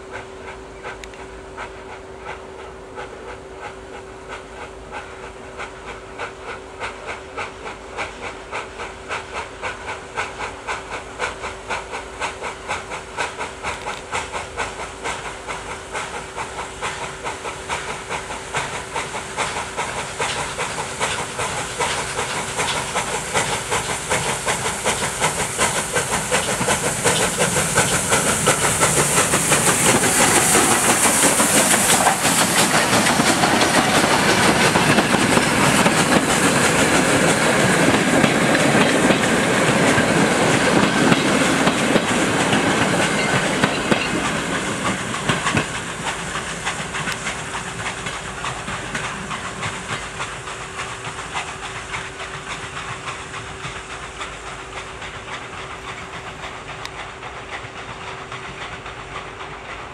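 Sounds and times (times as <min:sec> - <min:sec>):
loud steam hissing: 0:00.0 - 0:59.9
train wheels clattering over rails: 0:00.0 - 0:59.9.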